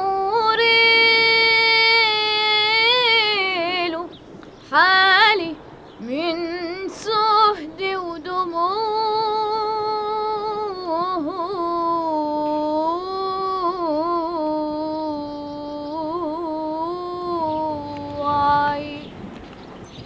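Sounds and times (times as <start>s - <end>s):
woman singing unaccompanied: 0.0s - 19.2s.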